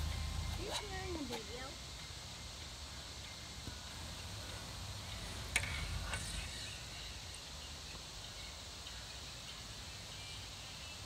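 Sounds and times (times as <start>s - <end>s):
faint insects chirping: 0.0s - 11.0s.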